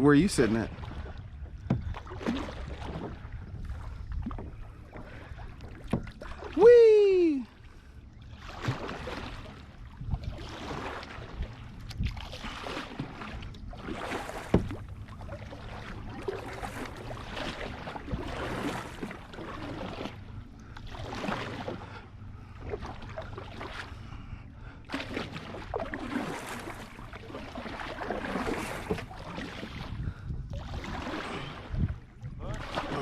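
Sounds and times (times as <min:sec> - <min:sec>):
paddle splashing through water: 0:00.0 - 0:33.0.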